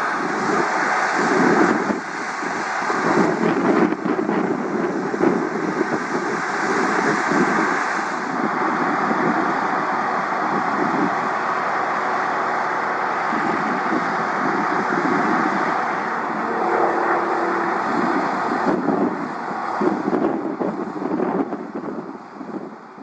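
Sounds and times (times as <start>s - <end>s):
aircraft engine: 0.0s - 23.0s
wind buffeting microphone: 0.0s - 23.0s.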